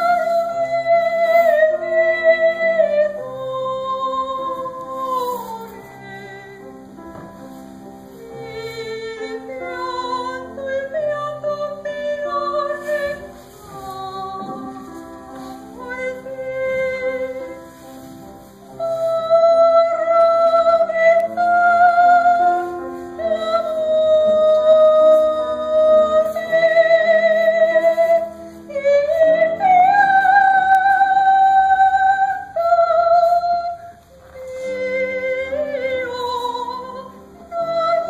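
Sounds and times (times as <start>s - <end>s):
piano accompaniment: 0.0s - 38.0s
soprano singing operatic aria: 0.0s - 38.0s.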